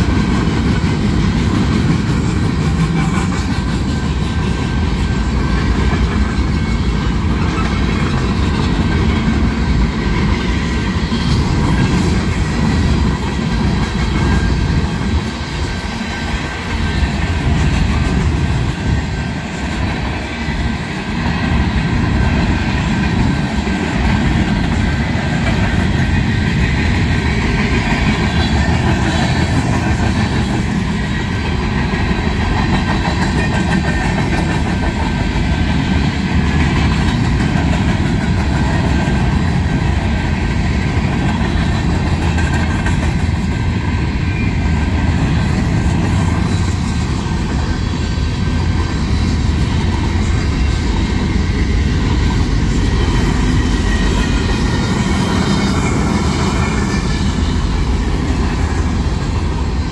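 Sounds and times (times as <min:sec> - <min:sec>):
freight train wheels rolling: 0:00.0 - 0:59.9.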